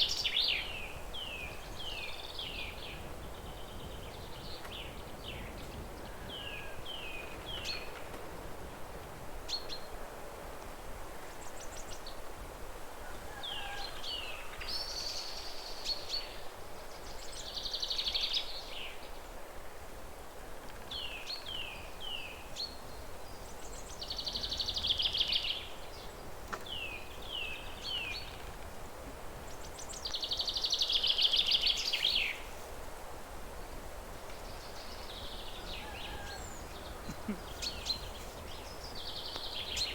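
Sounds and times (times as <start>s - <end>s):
songbirds chirping and trilling: 0.0s - 8.6s, 13.1s - 19.3s, 20.7s - 32.7s, 33.5s - 39.9s.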